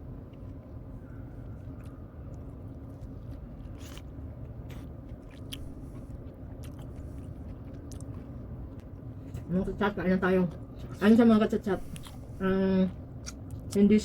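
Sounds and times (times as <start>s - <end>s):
person chewing cake: 0.0s - 14.0s
steady low hum: 0.0s - 14.0s.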